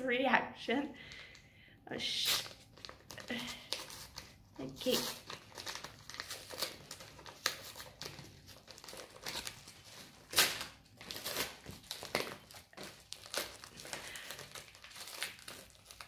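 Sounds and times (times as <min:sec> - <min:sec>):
paper envelope crinkling and tearing: 0:02.1 - 0:16.0.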